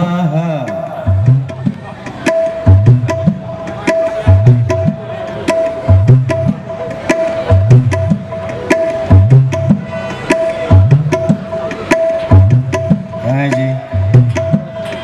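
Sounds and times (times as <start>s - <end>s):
hand drum groove: 0.6s - 15.0s.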